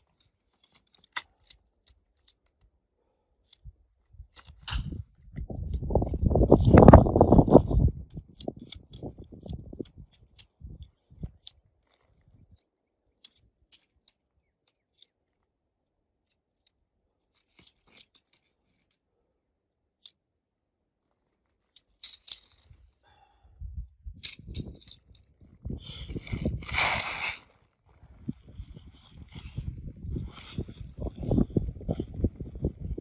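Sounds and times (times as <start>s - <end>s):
handling rustle: 0.0s - 15.5s, 17.2s - 19.0s, 20.9s - 23.1s, 24.1s - 32.9s
tent pole sections clicking: 0.0s - 15.5s, 16.2s - 19.0s, 20.0s - 20.2s, 21.0s - 23.0s, 24.0s - 33.0s.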